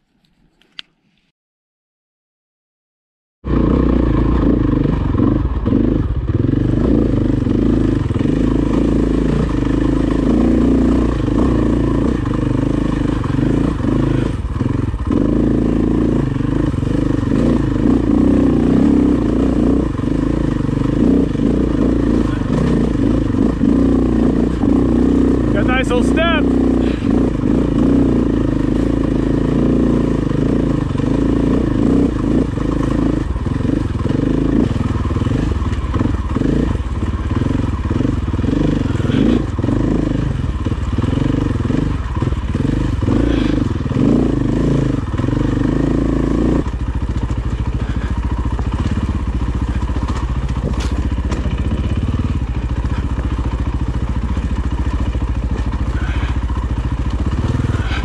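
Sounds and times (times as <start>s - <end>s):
dirt bike engine revving: 3.5s - 58.0s.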